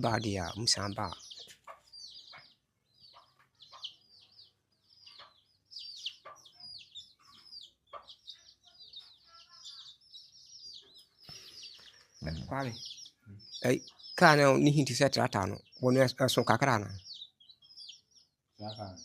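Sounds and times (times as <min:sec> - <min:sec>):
chickens peeping: 0:00.0 - 0:19.0.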